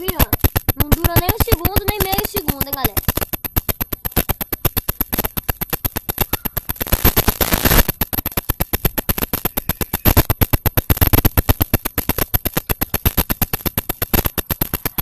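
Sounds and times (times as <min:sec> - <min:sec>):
loud hiss: 0:00.0 - 0:15.0
microphone crackling clicks: 0:00.0 - 0:15.0.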